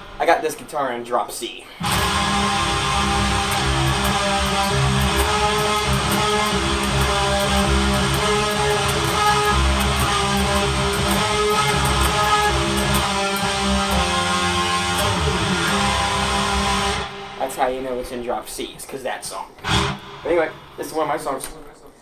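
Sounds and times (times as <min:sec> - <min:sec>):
electric guitar riff: 0:01.8 - 0:18.3, 0:19.6 - 0:21.5.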